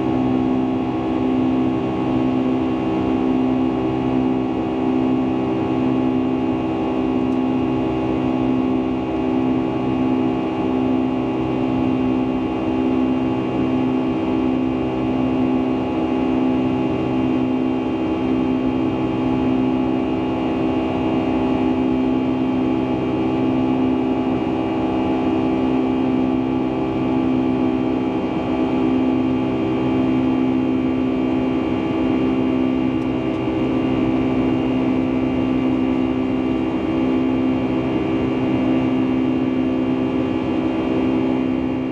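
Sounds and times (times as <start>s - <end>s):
jet engine drone in cabin: 0.0s - 41.9s.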